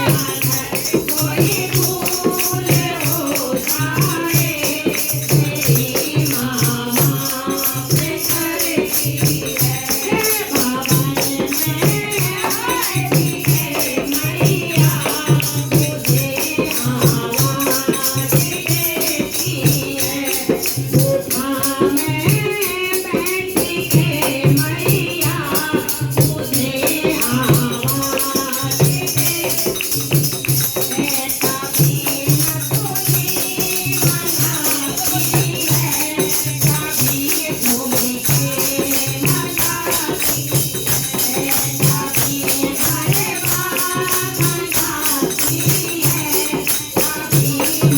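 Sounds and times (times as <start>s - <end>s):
jingling percussion: 0.0s - 47.9s.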